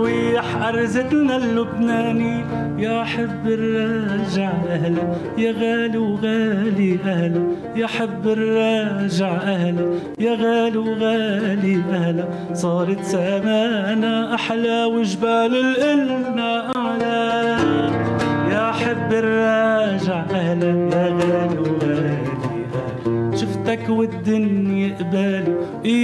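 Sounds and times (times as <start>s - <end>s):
man singing: 0.0s - 26.0s
plucked oud: 0.0s - 26.0s.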